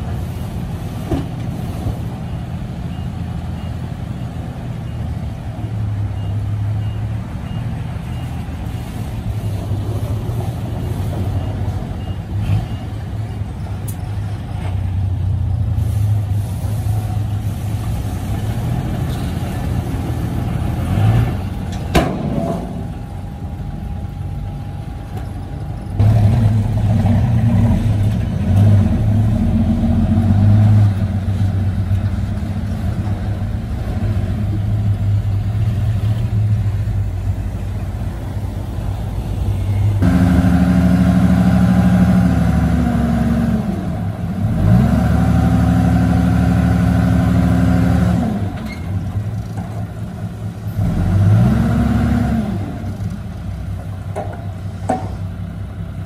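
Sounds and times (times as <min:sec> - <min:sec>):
diesel truck engines revving: 0:00.0 - 0:56.0.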